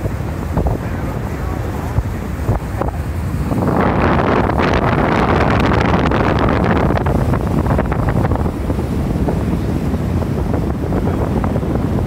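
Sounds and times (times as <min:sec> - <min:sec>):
loud wind buffeting microphone: 0:00.0 - 0:12.0.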